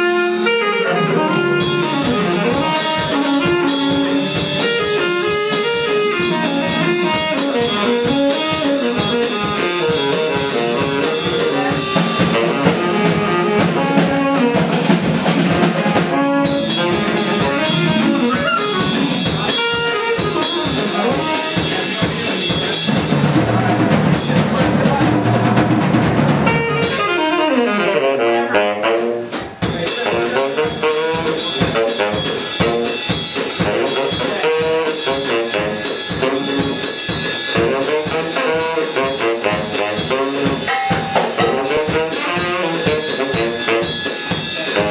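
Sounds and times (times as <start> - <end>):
saxophone: 0.0 - 22.5, 26.4 - 44.9
drum kit: 0.0 - 44.9.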